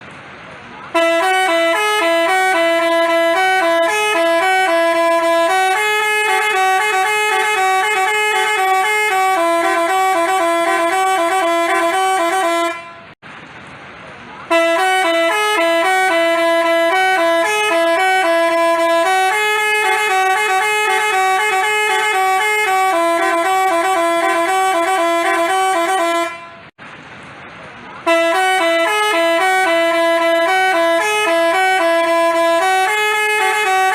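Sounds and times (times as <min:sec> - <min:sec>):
bus horn playing a tune: 0:00.9 - 0:13.2, 0:14.5 - 0:26.8, 0:28.0 - 0:33.9.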